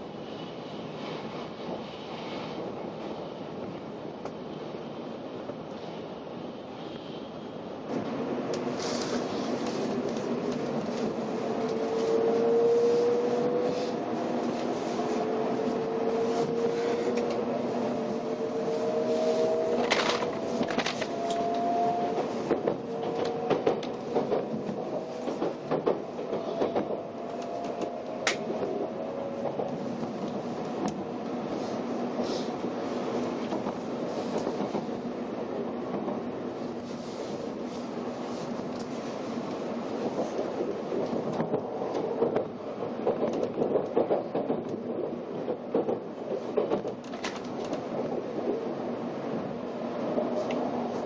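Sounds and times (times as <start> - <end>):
train interior rumble and hiss: 0.0 - 51.0.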